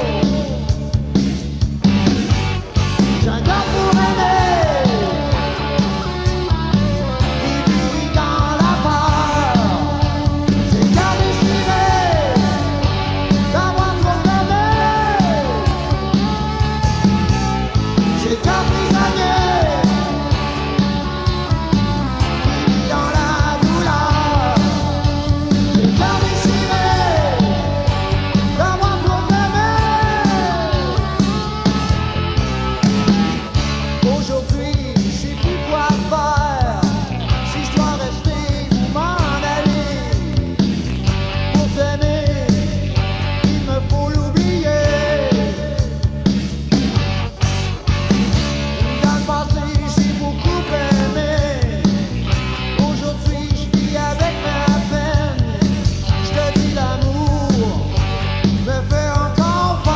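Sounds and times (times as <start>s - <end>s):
man singing: 0.0s - 1.1s, 3.0s - 16.5s, 18.0s - 21.0s, 22.5s - 31.3s, 34.0s - 40.7s, 41.3s - 46.2s, 48.8s - 59.9s
bass guitar: 0.0s - 59.9s
drum kit beat: 0.0s - 59.9s
electric guitar: 0.0s - 59.9s.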